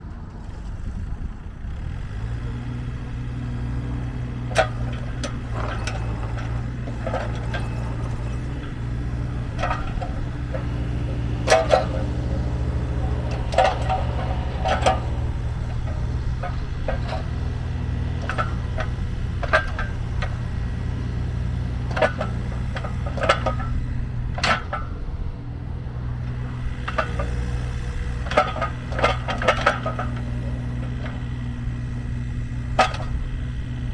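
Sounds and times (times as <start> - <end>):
diesel engine running: 0.0 - 33.9
sharp metal clanks and knocks: 2.9 - 25.3, 26.2 - 33.9.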